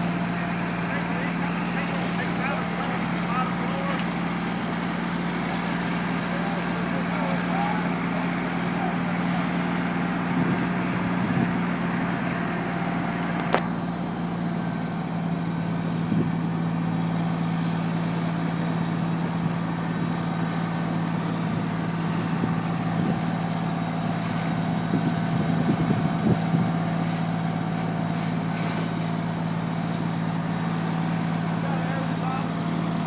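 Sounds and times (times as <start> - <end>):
truck engine droning: 0.0 - 33.0.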